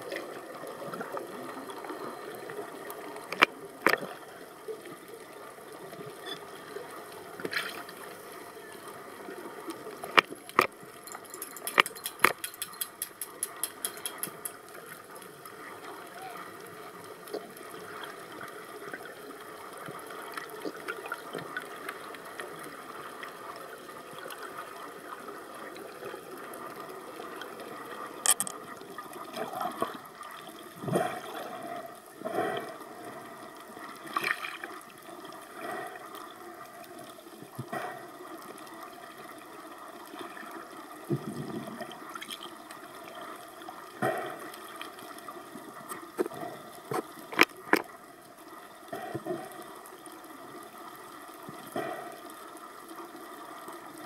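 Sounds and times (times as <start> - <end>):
underwater water noise: 0.0 - 54.0.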